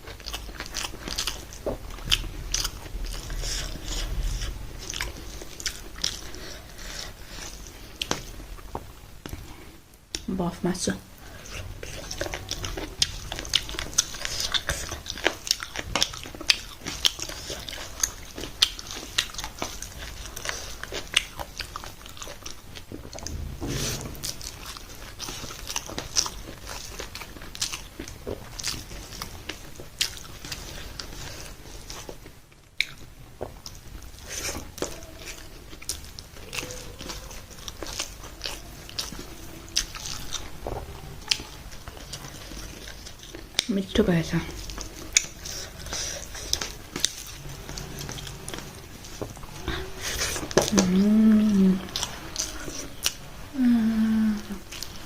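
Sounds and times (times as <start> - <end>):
person chewing crunchy food: 0.0 - 10.3, 11.2 - 43.8, 44.4 - 55.0.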